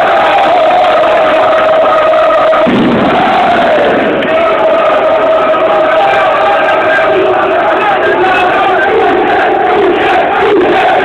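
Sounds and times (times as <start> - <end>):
crowd chanting: 0.0 - 11.0.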